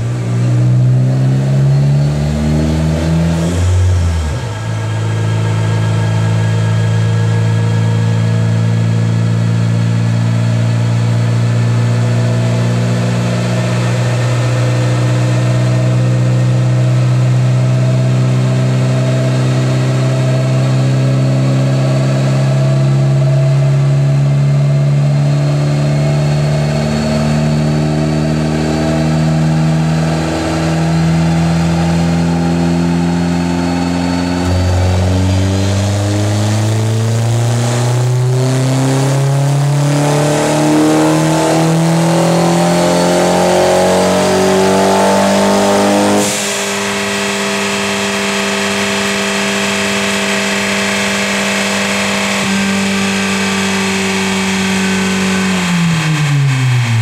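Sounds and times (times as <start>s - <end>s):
engine revving under load: 0.0s - 57.0s.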